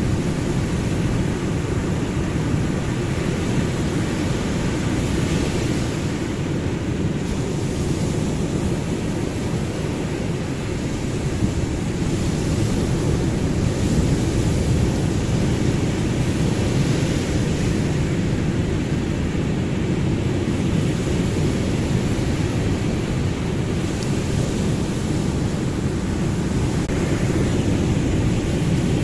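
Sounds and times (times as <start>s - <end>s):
low wash of ocean waves: 0.0s - 29.0s.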